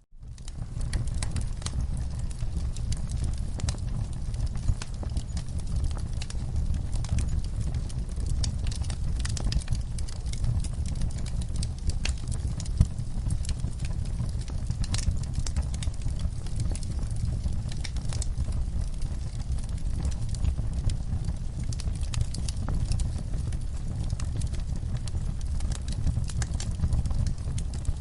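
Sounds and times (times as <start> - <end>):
fire crackling and popping: 0.2 - 28.0.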